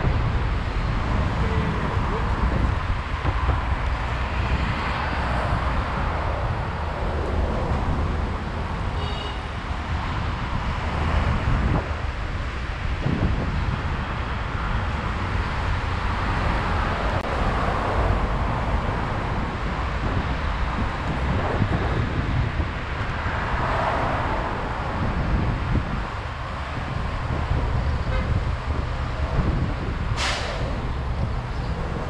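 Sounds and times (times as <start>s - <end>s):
passing traffic: 0.0s - 32.0s
road rumble: 0.0s - 32.0s
wind buffeting microphone: 0.0s - 32.0s.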